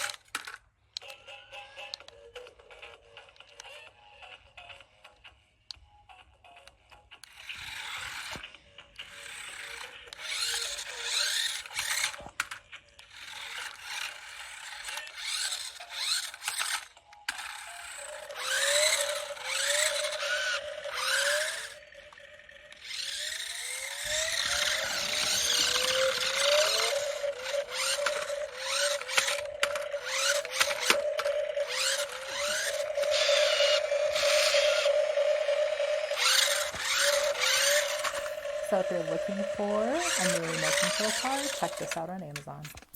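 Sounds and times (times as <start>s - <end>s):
toy car motor whirring: 0.0s - 42.9s.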